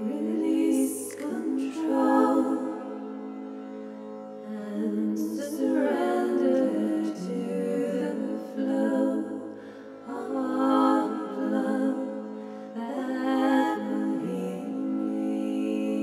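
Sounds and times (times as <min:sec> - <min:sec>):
woman singing wordless melody: 0:00.0 - 0:03.1, 0:04.4 - 0:16.0.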